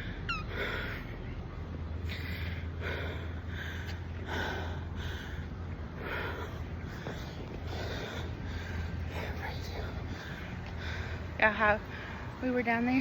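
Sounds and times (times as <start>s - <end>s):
woman breathing heavily: 0.0s - 12.4s.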